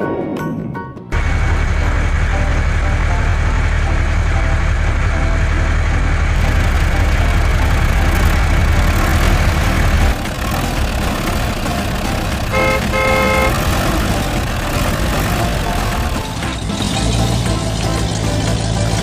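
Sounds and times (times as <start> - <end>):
engine running with deep rumble: 1.1 - 19.0.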